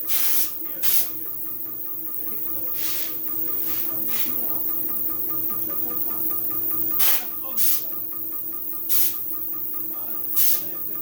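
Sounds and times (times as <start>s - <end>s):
electrical hum: 0.0s - 11.0s
rapid even beeping: 0.0s - 11.0s.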